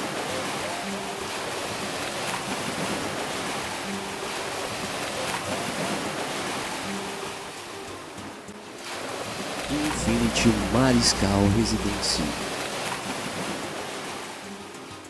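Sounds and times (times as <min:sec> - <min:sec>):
faint soft music notes: 0:00.0 - 0:12.6
ocean waves breaking: 0:00.0 - 0:14.5.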